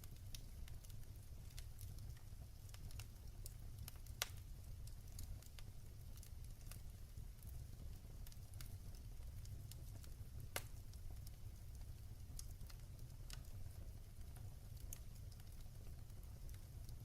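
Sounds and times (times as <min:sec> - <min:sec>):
wood fire crackling in fireplace: 0:00.0 - 0:17.0.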